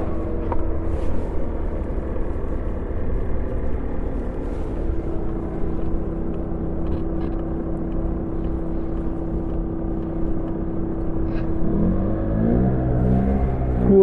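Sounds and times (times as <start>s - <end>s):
constant whine: 0.0s - 14.0s.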